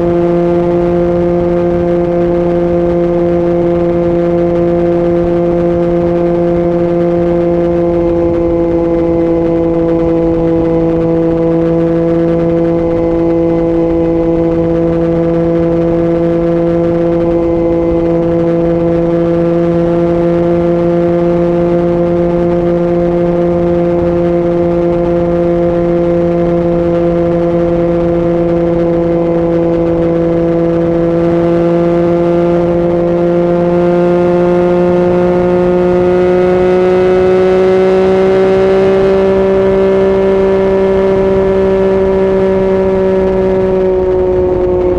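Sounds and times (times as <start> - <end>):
motorcycle engine cruising: 0.0 - 44.9
wind and road noise: 0.0 - 44.9.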